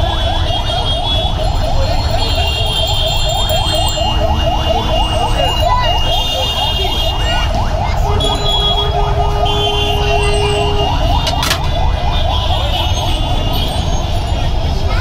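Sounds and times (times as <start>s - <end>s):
electronic siren yelping: 0.0s - 13.3s
street traffic rumble: 0.0s - 15.0s.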